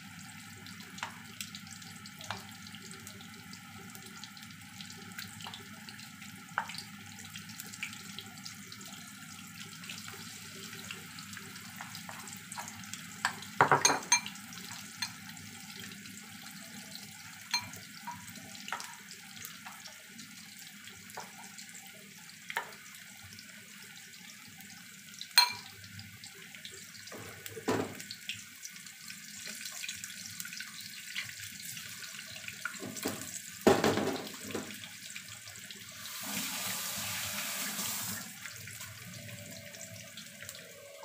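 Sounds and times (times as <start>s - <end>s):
deep-frying sizzle: 0.0s - 41.0s.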